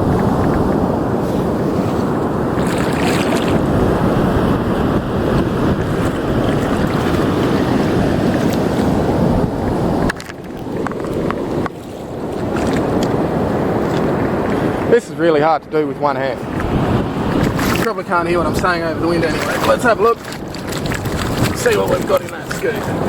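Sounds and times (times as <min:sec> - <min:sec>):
shallow surf washing: 0:00.0 - 0:23.0
wind buffeting microphone: 0:00.0 - 0:23.0.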